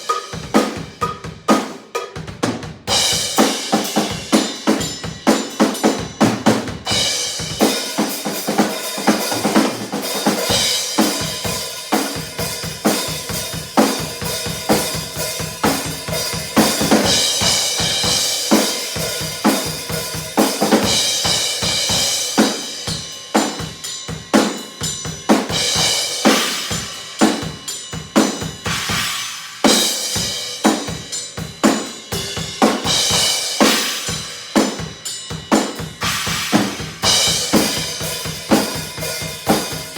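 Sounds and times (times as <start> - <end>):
cymbals washing: 0.0 - 1.2, 6.9 - 39.9.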